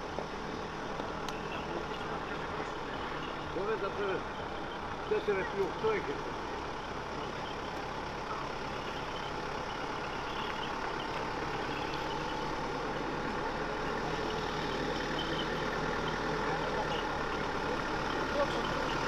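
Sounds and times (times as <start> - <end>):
jeep engine running slowly: 0.0 - 19.0.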